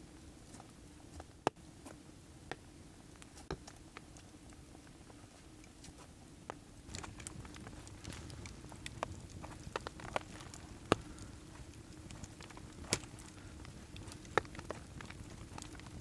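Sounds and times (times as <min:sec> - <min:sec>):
low steady background hum: 0:00.0 - 0:16.0.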